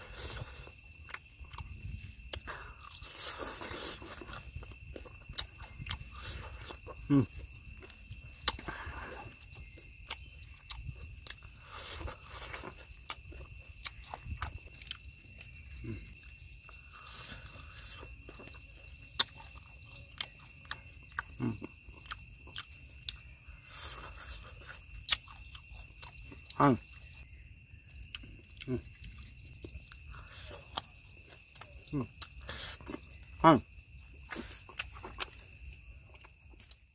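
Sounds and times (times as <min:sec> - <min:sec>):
crisp chewing crunches: 0:00.0 - 0:36.9.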